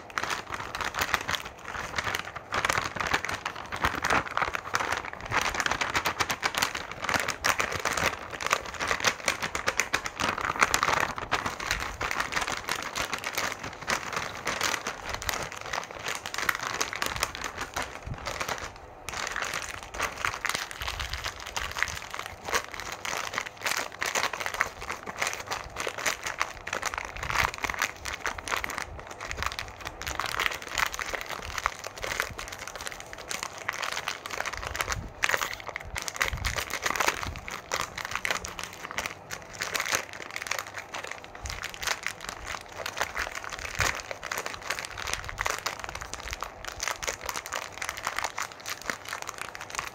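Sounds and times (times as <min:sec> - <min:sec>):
plastic wrappers crinkling: 0:00.0 - 0:49.9.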